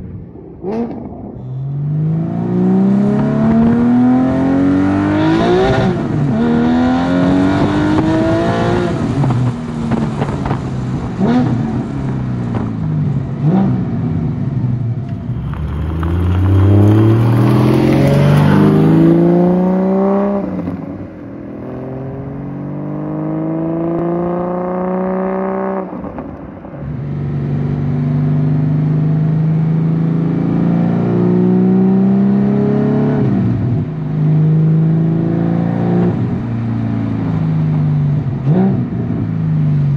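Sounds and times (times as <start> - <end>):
car engine accelerating with upshifts: 0.5 - 39.9.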